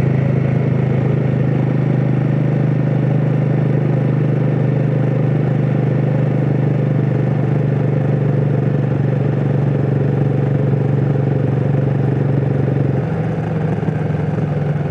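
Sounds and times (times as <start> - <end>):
motorcycle engine under load: 0.0 - 14.9.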